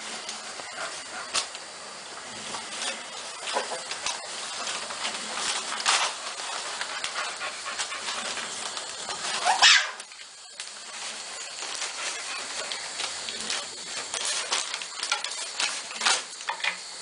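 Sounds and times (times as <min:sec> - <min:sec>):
puppies snuffling: 0:00.0 - 0:10.1, 0:10.7 - 0:16.1
newspaper rustling and crackling: 0:00.0 - 0:17.0
steady hiss: 0:00.0 - 0:17.0.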